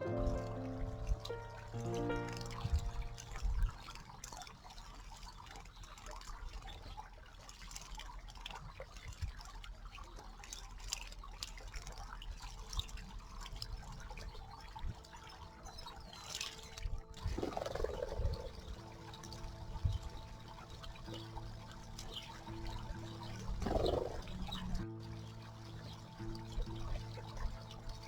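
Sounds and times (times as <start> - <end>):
small splashes and drips: 0.0 - 28.0
water trickling in a stream: 0.0 - 28.0.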